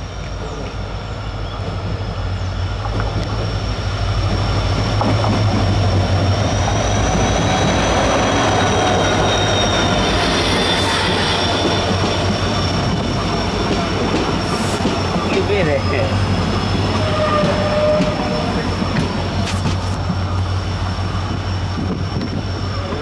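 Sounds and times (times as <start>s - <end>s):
coaches wheels rumbling: 0.0s - 23.0s
locomotive engine drone: 0.0s - 23.0s.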